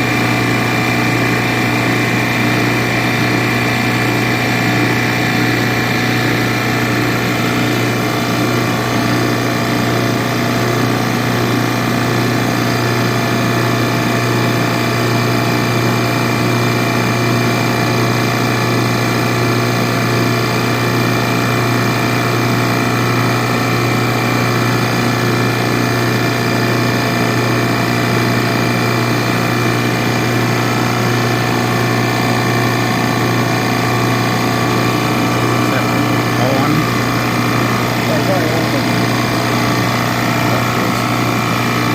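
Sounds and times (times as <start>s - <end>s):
recovery machine humming: 0.0s - 41.9s.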